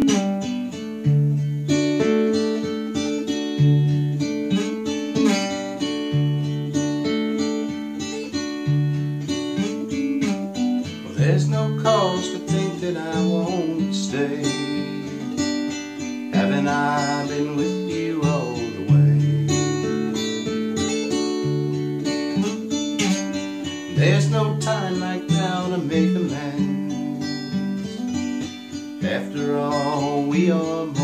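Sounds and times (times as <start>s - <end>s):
acoustic guitar picking and strumming: 0.0s - 31.0s.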